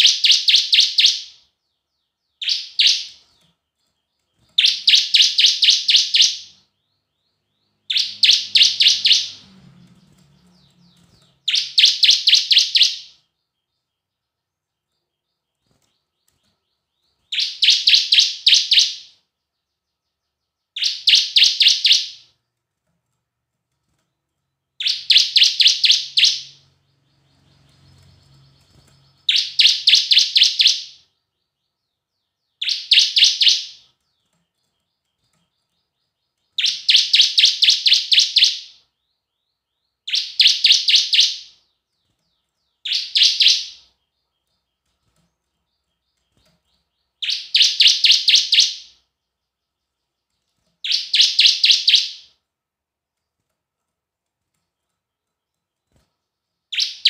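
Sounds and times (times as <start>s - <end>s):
bird rapid high chirping song: 0.0s - 22.6s, 23.9s - 52.4s, 54.5s - 57.0s.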